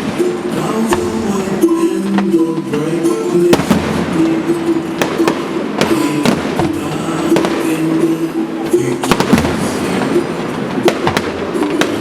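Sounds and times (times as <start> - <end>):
fireworks banging: 0.0 - 12.0
music with long held notes: 0.0 - 12.0.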